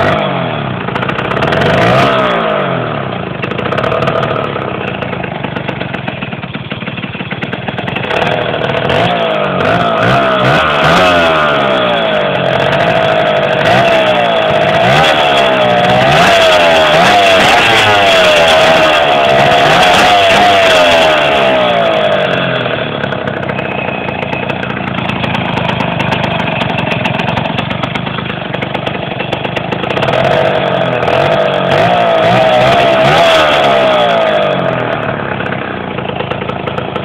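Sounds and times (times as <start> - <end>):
scooter two-stroke engine revving: 0.0 - 37.0.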